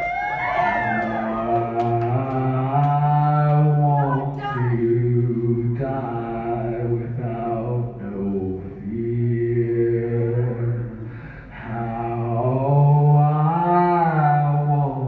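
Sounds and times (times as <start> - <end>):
man singing a cappella: 1.1 - 15.0.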